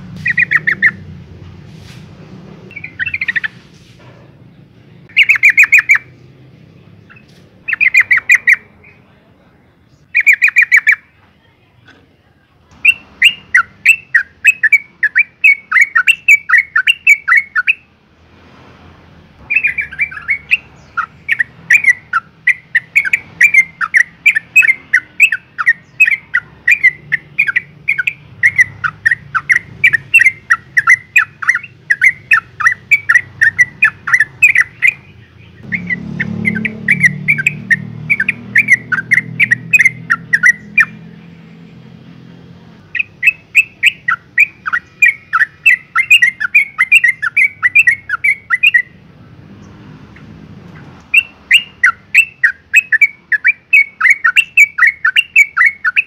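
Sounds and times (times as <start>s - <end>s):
bird chattering: 0.1s - 1.2s, 2.7s - 3.7s, 5.0s - 9.3s, 9.9s - 11.2s, 12.7s - 17.9s, 19.4s - 41.5s, 42.7s - 56.0s.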